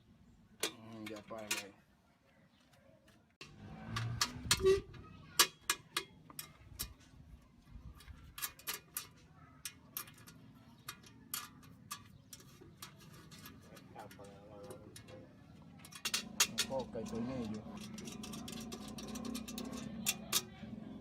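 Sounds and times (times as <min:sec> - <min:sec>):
clicks and knocks on metal: 0:00.6 - 0:01.8, 0:03.4 - 0:07.3, 0:07.9 - 0:20.6.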